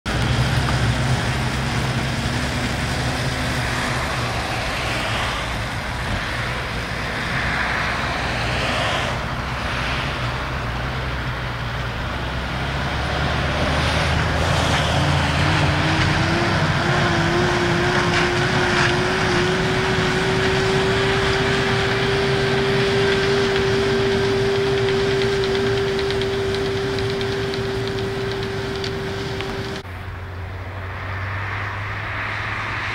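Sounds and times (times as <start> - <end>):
manure spreader throwing muck: 0.1 - 10.2, 12.2 - 29.8
steady whine: 0.1 - 30.2
tractor engine under load: 0.1 - 30.8.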